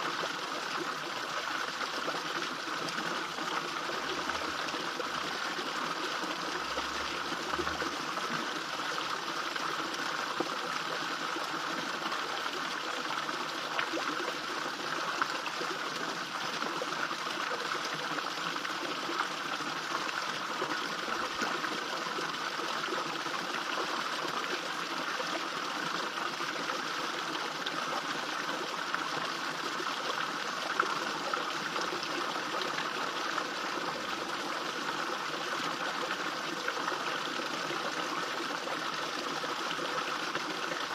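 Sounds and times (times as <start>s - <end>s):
small waterfall splashing into pond: 0.0s - 40.9s.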